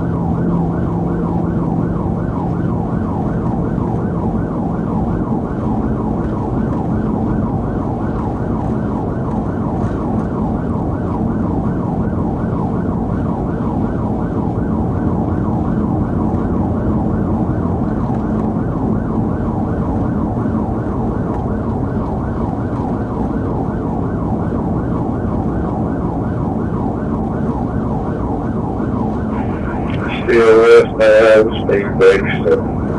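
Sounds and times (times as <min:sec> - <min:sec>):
car engine and road rumble: 0:00.0 - 0:32.9
police siren yelping: 0:00.0 - 0:32.9.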